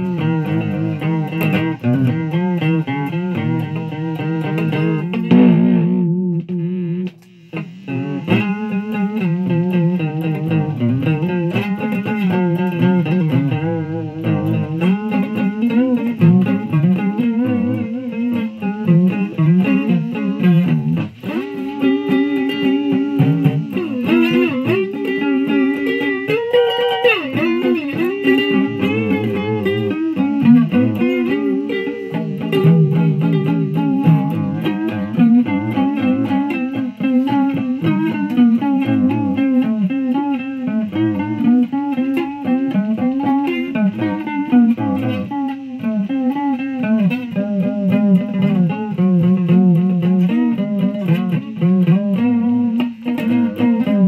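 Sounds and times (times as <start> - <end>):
fuzzy electric guitar: 0.0 - 54.0.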